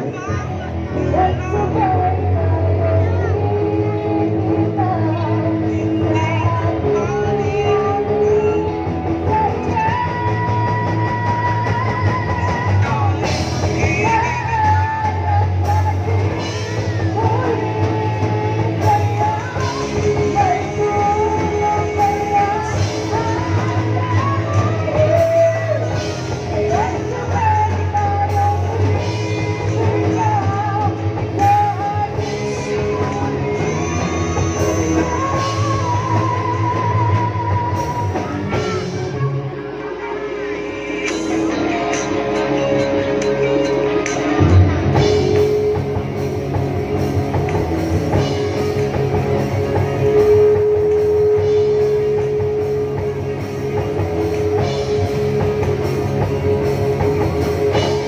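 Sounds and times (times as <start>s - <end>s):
electric guitars: 0.0s - 58.0s
person singing: 0.0s - 58.0s
rock band playing live: 0.0s - 58.0s.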